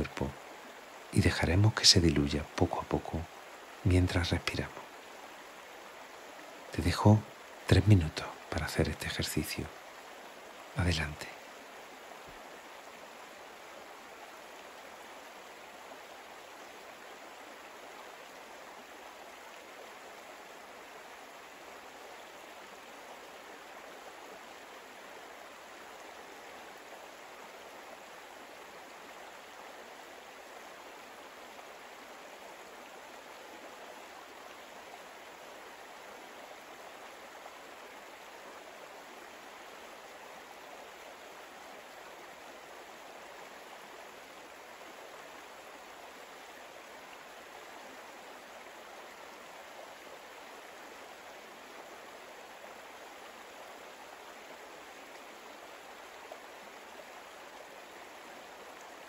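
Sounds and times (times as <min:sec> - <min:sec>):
flowing stream water: 0:00.0 - 0:59.0.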